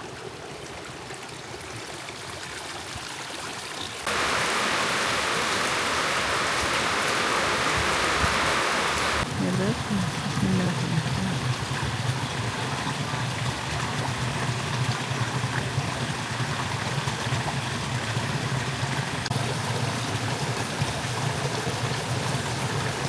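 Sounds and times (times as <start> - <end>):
water rushing in heavy rain: 1.4 - 23.0.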